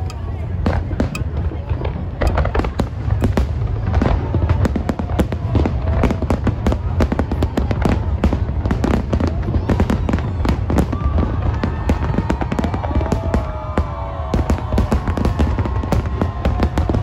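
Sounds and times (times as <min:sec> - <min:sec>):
continuous low rumble: 0:00.0 - 0:17.0
fireworks bursts and crackling bangs: 0:00.0 - 0:17.0.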